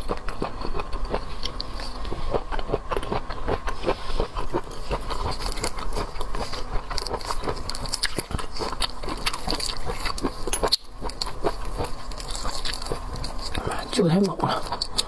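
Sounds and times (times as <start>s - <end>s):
person chewing seafood: 0.0s - 15.0s.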